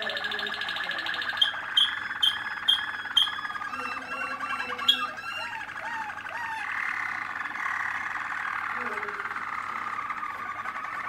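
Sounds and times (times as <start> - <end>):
canaries singing trills: 0.0 - 11.0.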